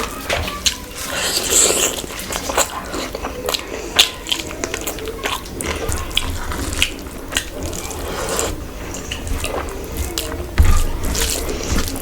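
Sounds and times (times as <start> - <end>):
wet chewing and smacking: 0.0 - 12.0.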